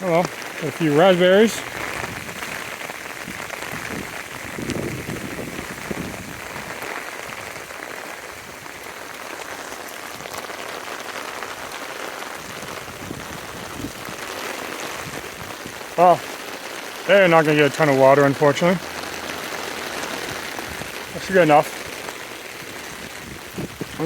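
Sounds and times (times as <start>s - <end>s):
rain falling on plants: 0.0s - 24.0s
raindrops ticking: 0.0s - 24.0s.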